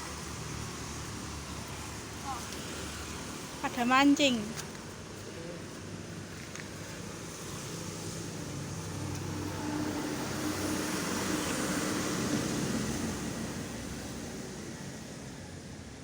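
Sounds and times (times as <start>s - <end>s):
vehicle passing on road: 0.0s - 15.9s.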